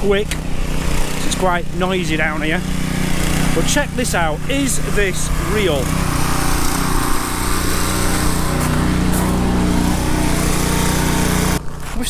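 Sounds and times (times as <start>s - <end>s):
pressure washer engine drone: 0.0s - 12.0s
pressure washer hiss: 0.5s - 11.6s.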